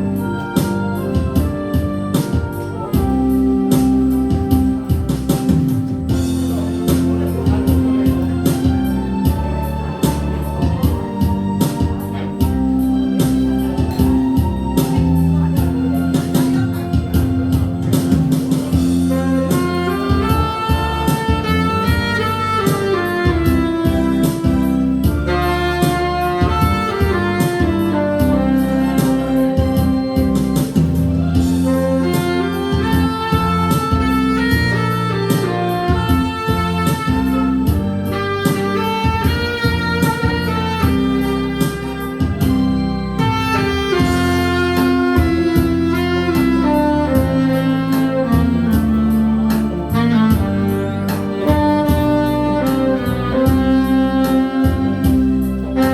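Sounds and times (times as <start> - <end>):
drum beat and bass backing: 0.0 - 55.9
saxophone melody: 0.0 - 55.9.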